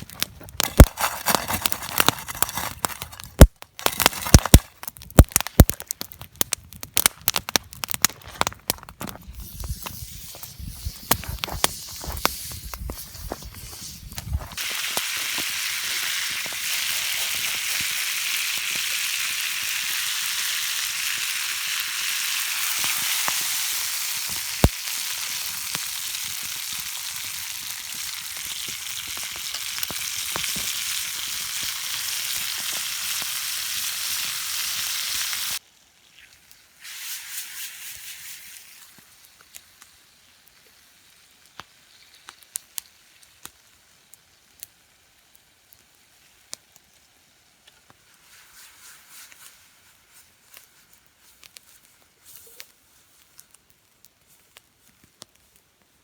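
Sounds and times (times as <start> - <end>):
fire crackles: 0.0 - 56.0
food sizzling over campfire: 0.0 - 56.0.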